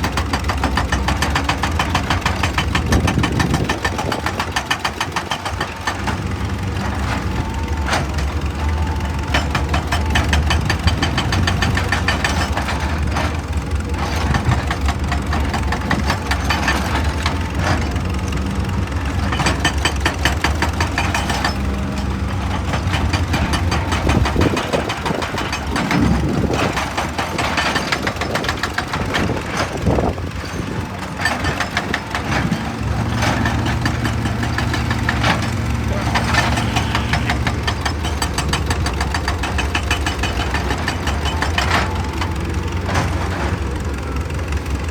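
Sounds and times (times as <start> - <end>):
dense rattling clatter: 0.0 - 44.9
excavator diesel engine: 0.0 - 44.9.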